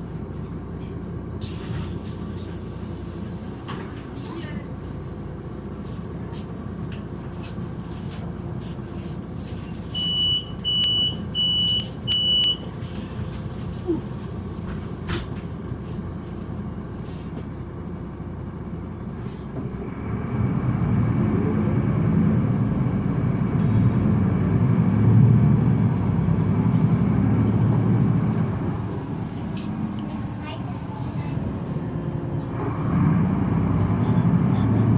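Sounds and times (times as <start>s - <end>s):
bus engine idling: 0.0s - 34.9s
diesel engine under load: 0.0s - 34.9s.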